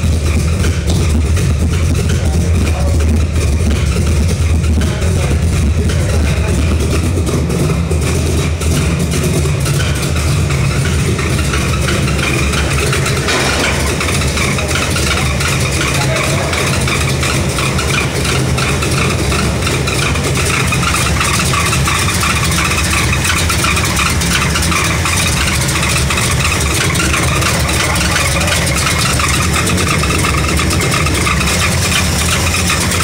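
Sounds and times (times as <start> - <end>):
car engine running loud: 0.0 - 33.0.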